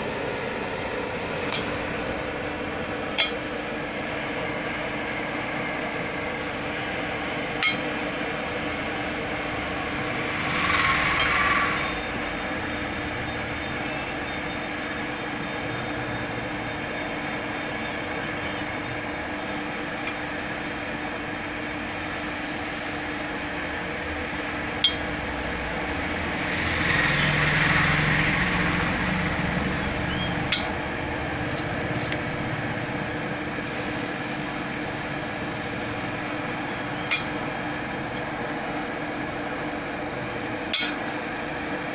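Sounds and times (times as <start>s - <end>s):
forge fire humming and rushing: 0.0s - 41.9s.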